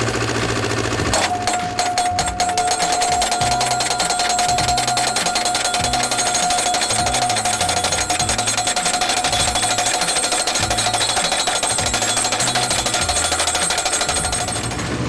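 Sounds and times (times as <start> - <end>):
hydraulic hammer pounding steel post: 0.2 - 15.0.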